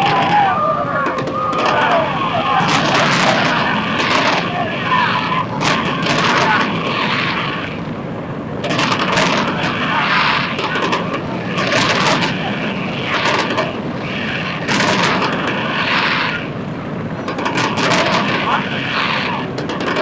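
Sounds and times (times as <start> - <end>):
fireworks bursting and crackling: 0.0 - 20.0
low rumble: 0.0 - 20.0.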